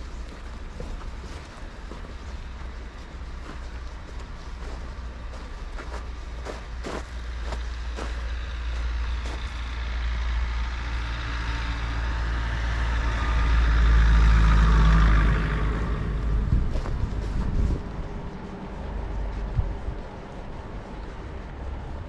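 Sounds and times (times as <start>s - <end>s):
footsteps in snow: 0.0s - 22.0s
heavy vehicle passing: 0.0s - 22.0s.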